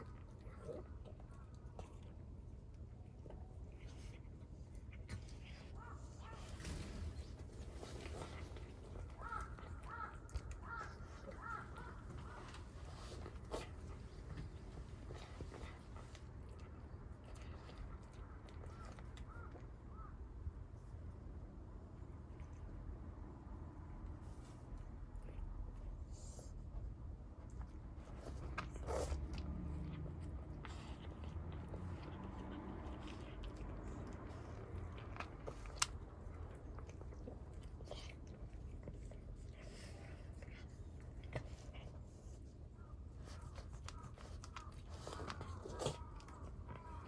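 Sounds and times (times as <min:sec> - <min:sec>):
kittens chewing clicks: 0:00.0 - 0:23.4, 0:26.7 - 0:47.0.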